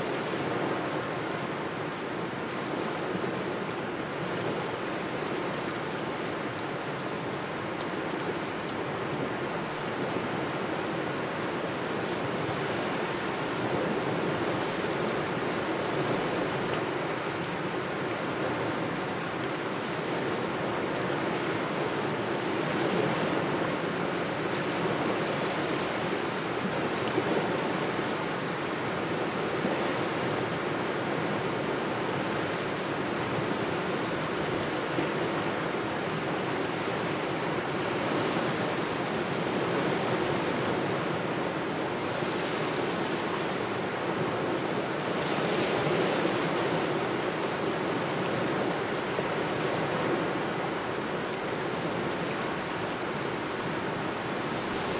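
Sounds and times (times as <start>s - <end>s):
small waves washing on shore: 0.0s - 54.9s
wind: 0.0s - 54.9s.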